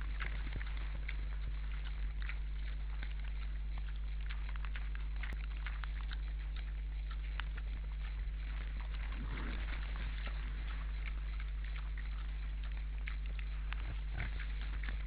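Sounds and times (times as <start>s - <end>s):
boars crunching in snow: 0.0s - 15.0s
low electrical hum: 0.0s - 15.0s.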